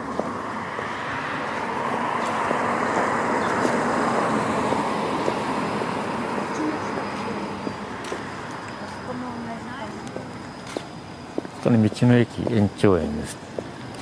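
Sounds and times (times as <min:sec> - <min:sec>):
car passing: 0:00.0 - 0:14.0.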